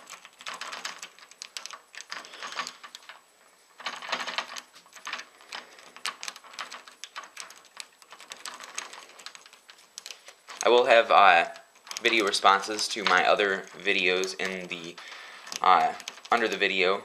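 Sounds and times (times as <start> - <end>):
lock pick clicking and scraping: 0.0 - 3.2, 3.8 - 10.8, 11.5 - 16.6.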